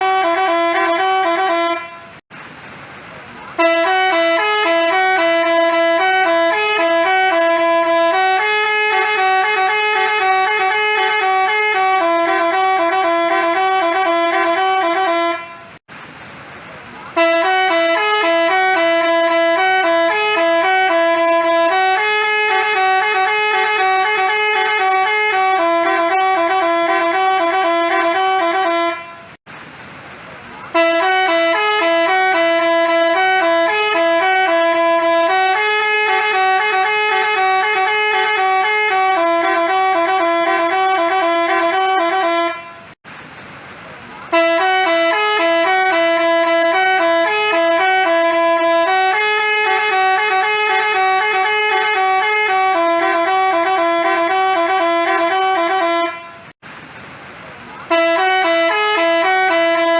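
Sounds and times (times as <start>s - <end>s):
bus horn playing a tune: 0.0s - 2.2s, 3.5s - 15.9s, 17.1s - 29.4s, 30.7s - 43.0s, 44.3s - 56.6s, 57.8s - 59.9s.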